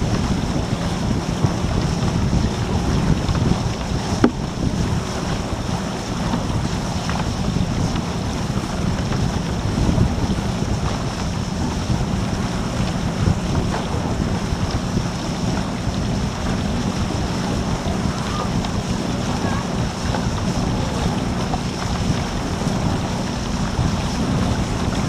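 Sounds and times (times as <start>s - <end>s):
choppy water rushing past hull: 0.0s - 25.0s
motorboat running: 0.0s - 25.0s
wind buffeting microphone: 0.0s - 25.0s.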